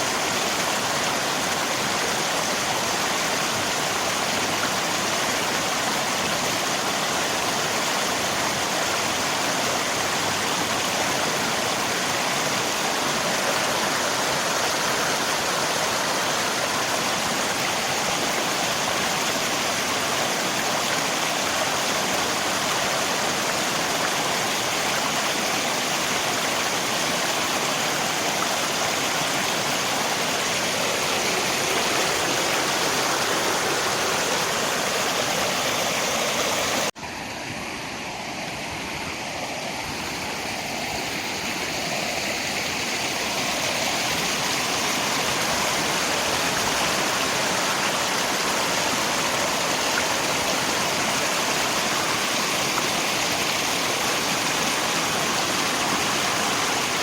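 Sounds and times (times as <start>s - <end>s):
rain: 0.0s - 57.0s
river water rushing: 0.0s - 57.0s.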